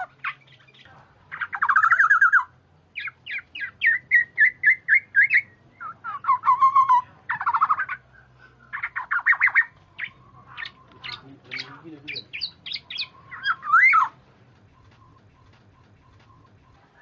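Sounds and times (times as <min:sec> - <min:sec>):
oriole calls: 0:00.0 - 0:00.7, 0:01.3 - 0:17.0.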